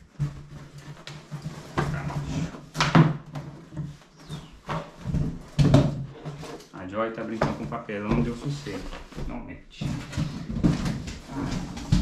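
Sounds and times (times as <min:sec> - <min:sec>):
cardboard boxes scraping and rustling: 0:00.0 - 0:02.8, 0:03.4 - 0:12.0.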